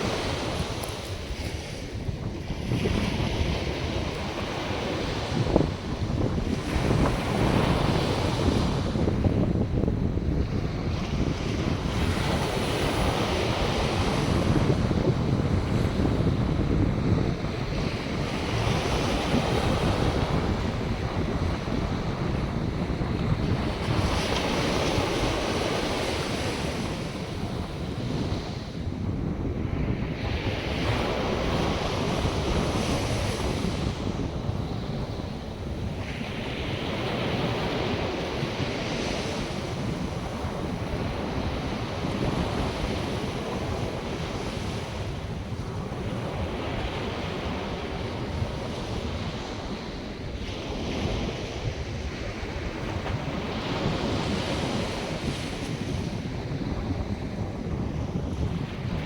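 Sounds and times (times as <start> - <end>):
waves breaking on beach: 0.0 - 59.0
wind rumbling on microphone: 0.0 - 59.0.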